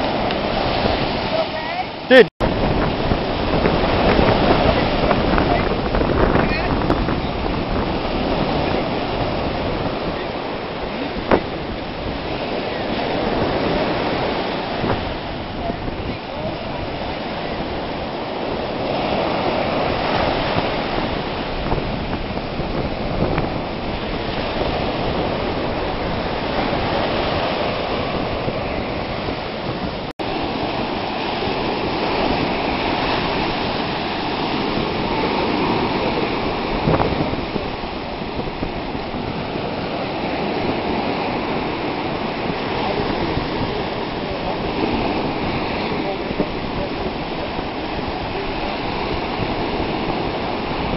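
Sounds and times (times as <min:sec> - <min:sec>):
ocean surf breaking on beach: 0:00.0 - 0:50.9.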